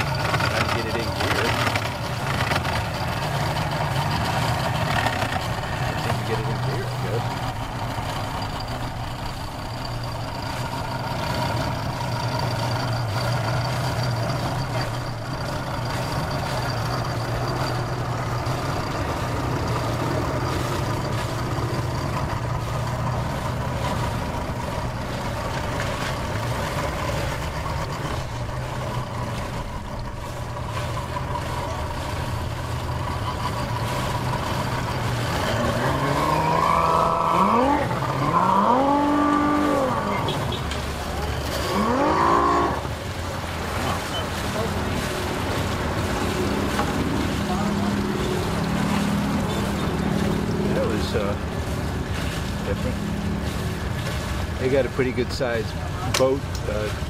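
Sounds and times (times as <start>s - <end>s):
outboard motor humming and revving: 0.0s - 57.0s.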